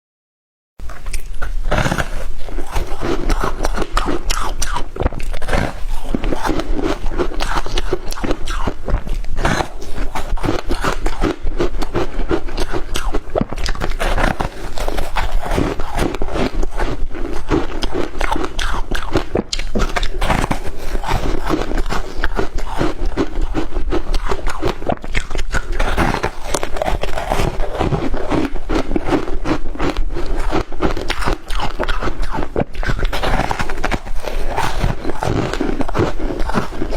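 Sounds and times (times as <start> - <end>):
ice being chewed: 0.8 - 36.9.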